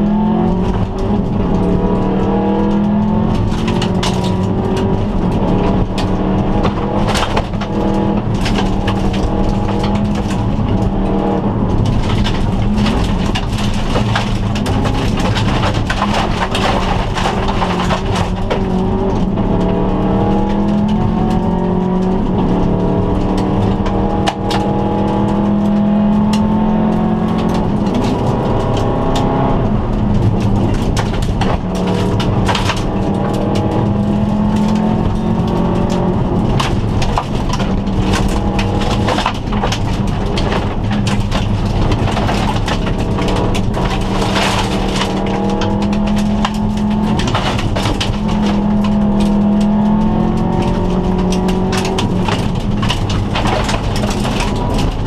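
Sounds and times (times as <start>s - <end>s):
gravel pinging against underbody: 0.0s - 55.0s
rally car engine revving: 0.0s - 55.0s.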